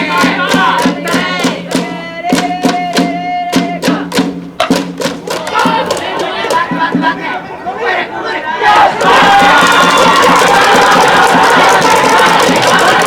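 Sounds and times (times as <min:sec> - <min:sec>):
drum beating steadily: 0:00.0 - 0:07.4, 0:08.9 - 0:13.0
crowd chanting and singing: 0:00.0 - 0:13.0.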